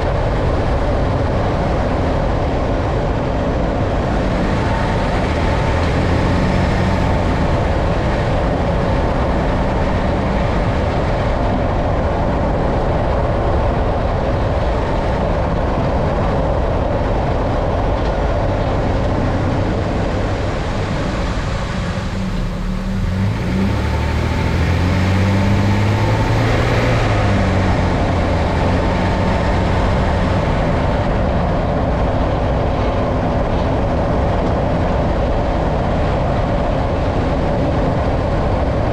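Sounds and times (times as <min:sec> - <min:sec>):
pickup truck driving: 0:00.0 - 0:38.9.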